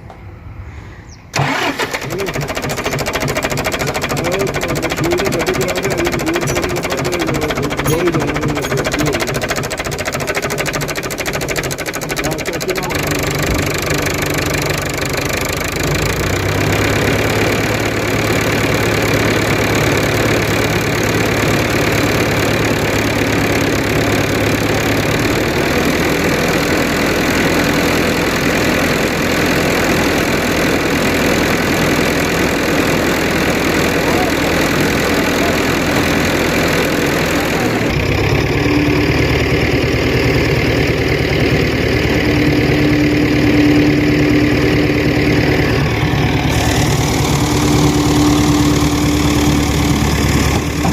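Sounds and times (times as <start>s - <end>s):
diesel tractor engine running: 1.3s - 50.9s.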